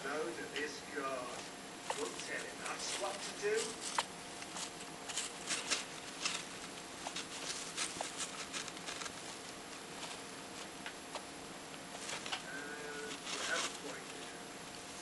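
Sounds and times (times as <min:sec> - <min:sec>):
hamster rustling wood shavings: 0:00.6 - 0:15.0.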